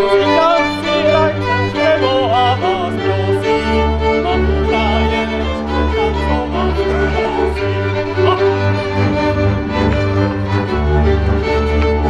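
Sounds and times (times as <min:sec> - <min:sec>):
bowed bass notes: 0:00.0 - 0:12.0
violin melody: 0:00.0 - 0:12.0.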